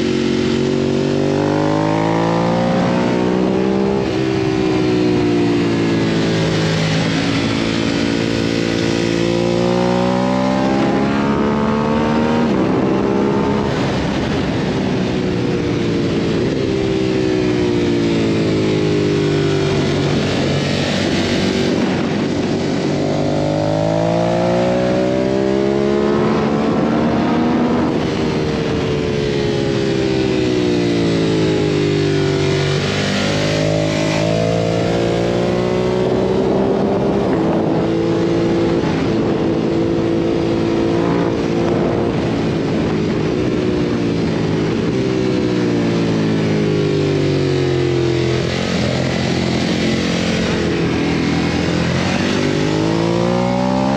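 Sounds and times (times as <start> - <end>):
motorcycle engine accelerating: 0.0 - 53.9
wind rush on microphone: 0.0 - 53.9.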